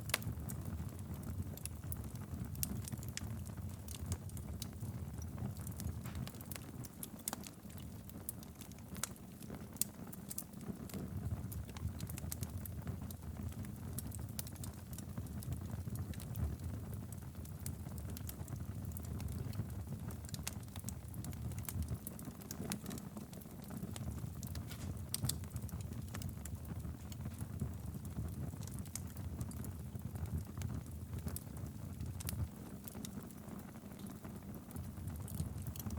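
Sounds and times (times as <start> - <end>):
fire crackling and popping: 0.0 - 35.9.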